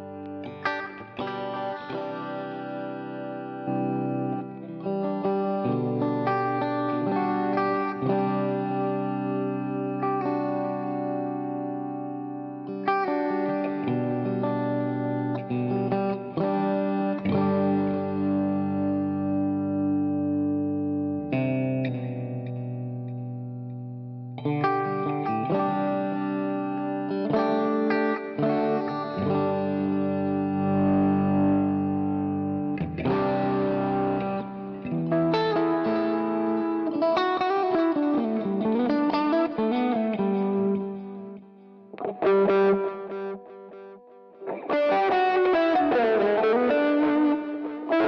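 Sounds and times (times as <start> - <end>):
electric guitar playing: 0.0 - 48.0.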